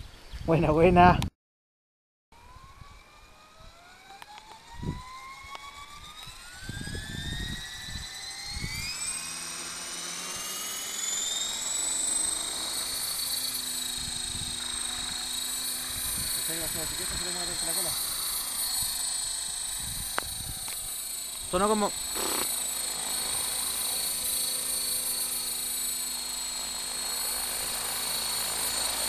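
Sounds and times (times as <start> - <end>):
rc helicopter motor whine: 2.4 - 29.0.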